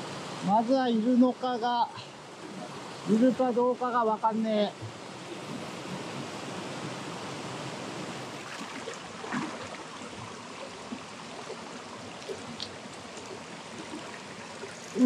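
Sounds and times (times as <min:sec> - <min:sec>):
stream water over rocks: 0:00.0 - 0:15.0.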